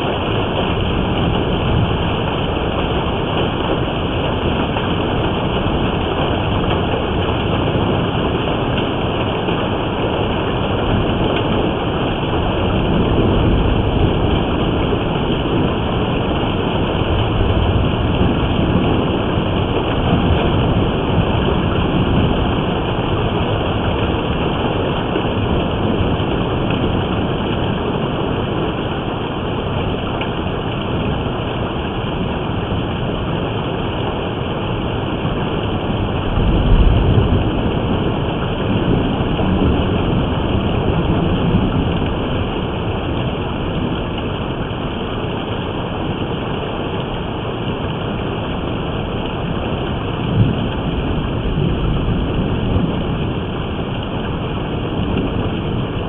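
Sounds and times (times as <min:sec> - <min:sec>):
rain and hail beating down: 0:00.0 - 0:56.0.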